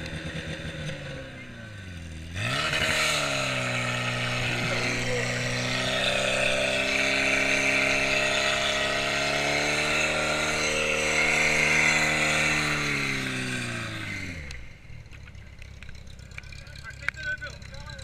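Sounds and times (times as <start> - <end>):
pump engine running and winding down: 0.0 - 18.0.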